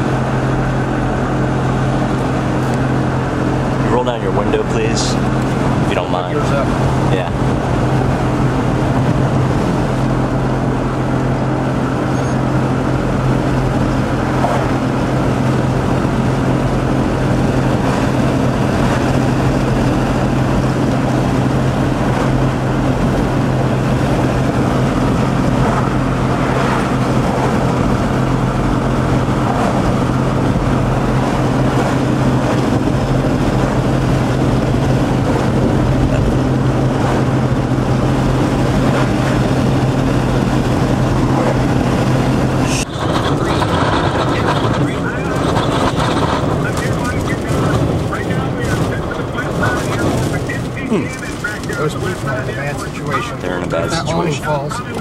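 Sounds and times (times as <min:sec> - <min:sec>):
car cabin drone and wind rush: 0:00.0 - 0:55.0.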